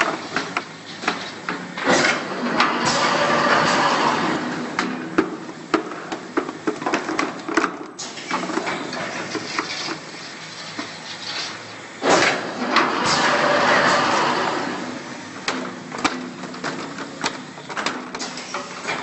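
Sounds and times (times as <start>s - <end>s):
loud noisy machine running: 0.0s - 19.0s.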